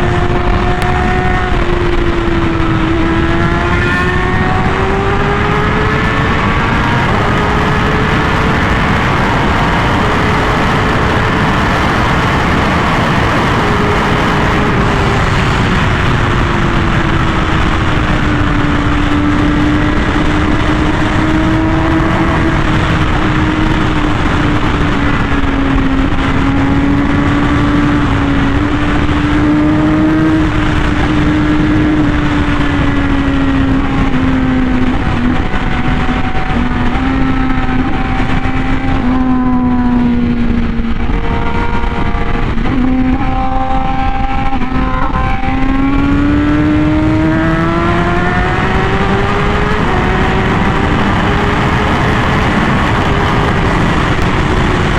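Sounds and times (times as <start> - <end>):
heavy wind rush: 0.0 - 54.9
motorcycle engine at high speed: 0.0 - 54.9.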